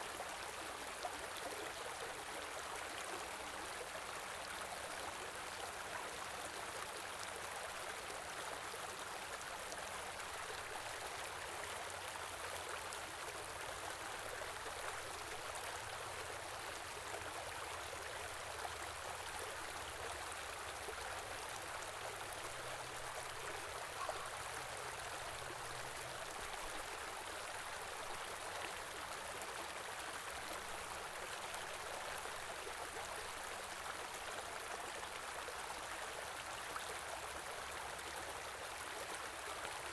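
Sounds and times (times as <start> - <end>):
stream flowing: 0.1 - 39.9.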